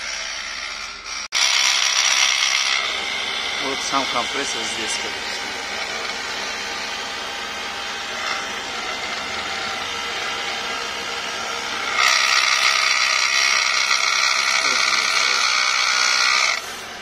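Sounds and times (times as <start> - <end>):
air compressor buzzing: 0.0 - 17.0.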